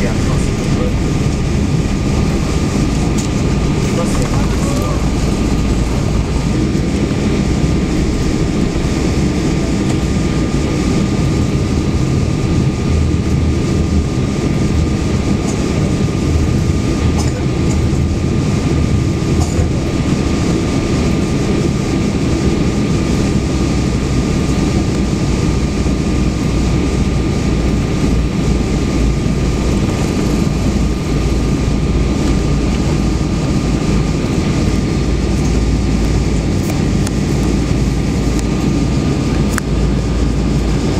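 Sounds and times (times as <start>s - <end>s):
engine and wheels rumbling: 0.0s - 40.9s
thin steady whine: 0.0s - 40.9s.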